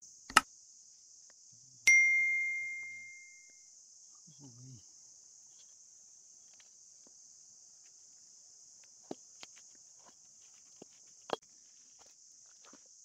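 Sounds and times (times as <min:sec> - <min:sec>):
insect chorus: 0:00.0 - 0:01.8, 0:02.6 - 0:13.0.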